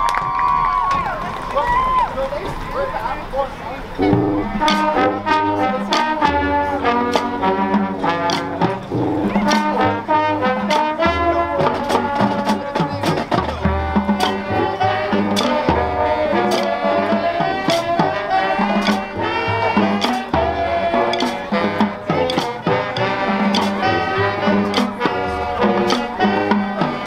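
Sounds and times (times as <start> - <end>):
low bass line: 2.2 - 27.0
brass horns playing chords: 3.2 - 27.0.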